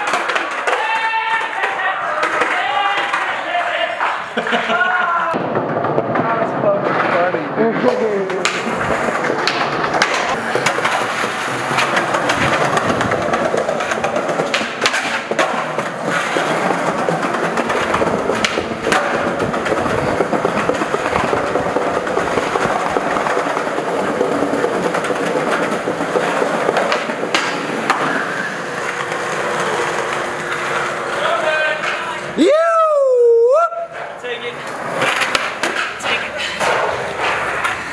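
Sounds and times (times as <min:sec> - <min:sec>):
skateboard clacks: 0:00.0 - 0:32.5, 0:33.6 - 0:37.9
skateboard wheels rolling on concrete: 0:00.0 - 0:37.9.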